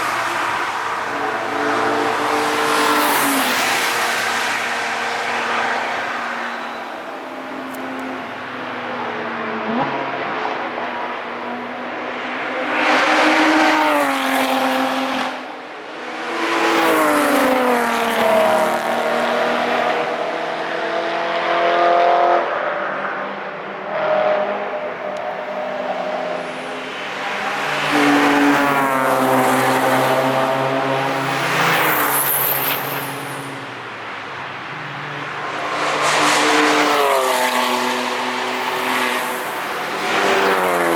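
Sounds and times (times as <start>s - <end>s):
car engines under power: 0.0s - 40.9s
race cars passing by: 0.0s - 40.9s.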